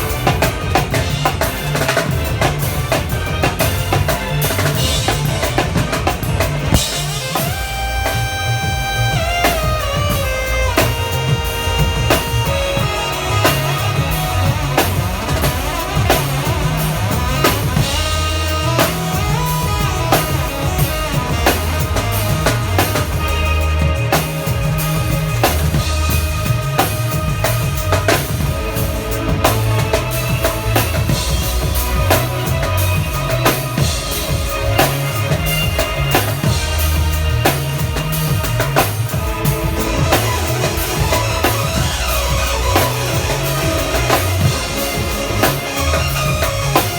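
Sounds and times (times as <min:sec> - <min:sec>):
bass line: 0:00.0 - 0:46.9
drum kit beat: 0:00.0 - 0:46.9
keyboard playing: 0:00.0 - 0:46.9.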